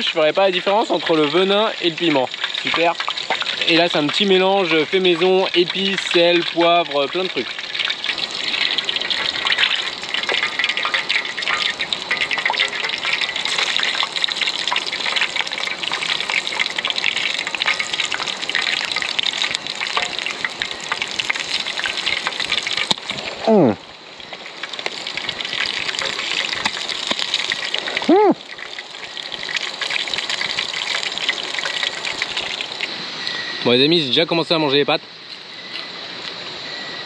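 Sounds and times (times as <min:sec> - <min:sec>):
oil sizzling and crackling: 0:00.0 - 0:33.4.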